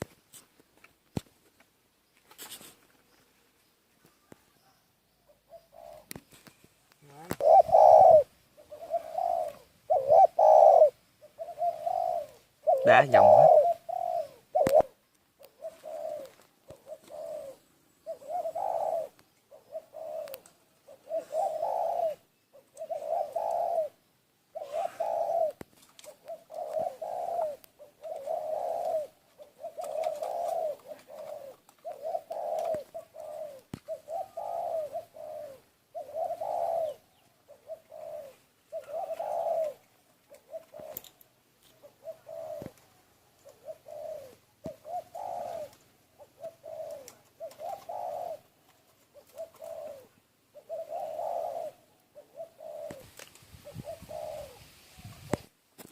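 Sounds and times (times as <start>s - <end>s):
dove cooing: 4.0s - 55.5s.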